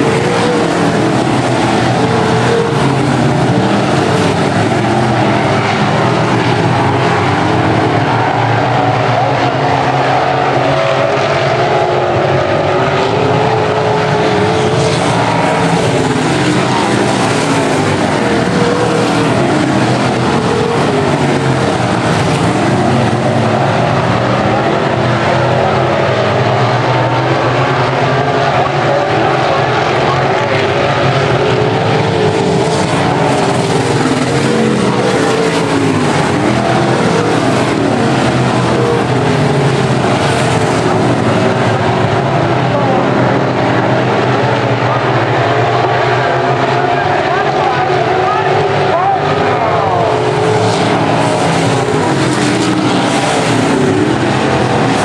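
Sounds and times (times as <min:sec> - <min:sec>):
race car engines running hard: 0:00.0 - 0:55.0.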